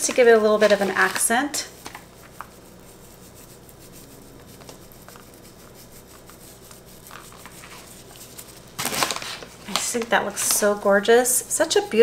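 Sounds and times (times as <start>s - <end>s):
dried petals ticking and rustling: 0.0s - 12.0s
low steady hum: 0.0s - 12.0s.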